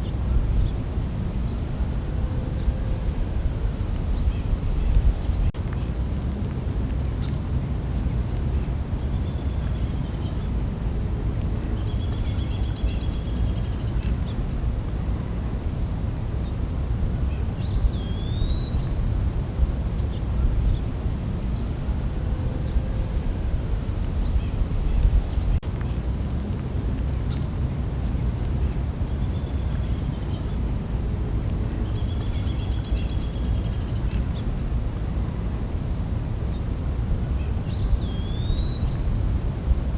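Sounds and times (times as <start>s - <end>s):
crickets chirping: 0.0s - 39.9s
high insect drone: 0.0s - 39.9s.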